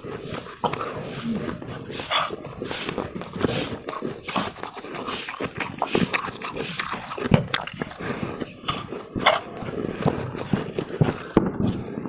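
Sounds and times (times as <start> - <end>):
snow crunching in mouth: 0.0 - 12.0.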